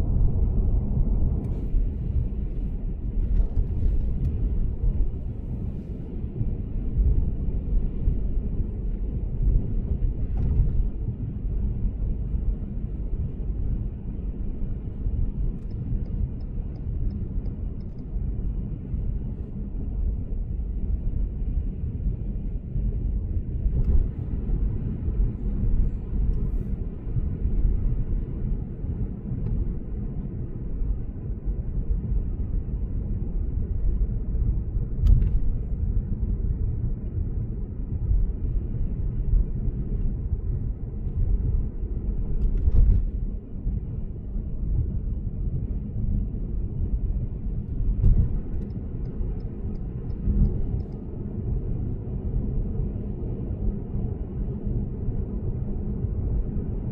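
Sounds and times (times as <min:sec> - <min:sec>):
road and tyre rumble: 0:00.0 - 0:56.9.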